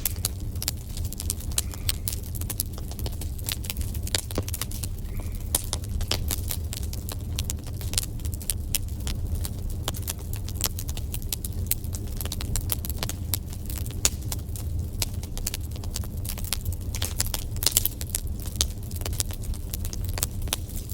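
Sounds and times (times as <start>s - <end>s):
low rumble of flames: 0.0s - 20.9s
wood fire crackling and popping: 0.0s - 20.9s.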